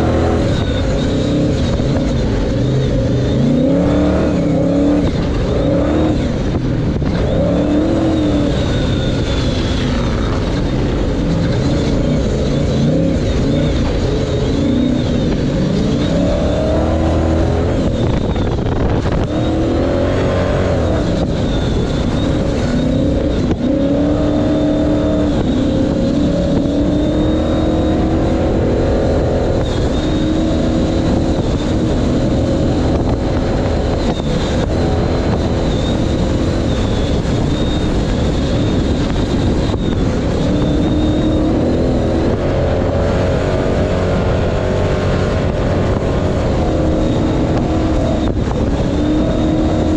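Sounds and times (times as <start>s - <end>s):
race truck engine revving: 0.0s - 49.9s
tyre and chassis rumble: 0.0s - 49.9s.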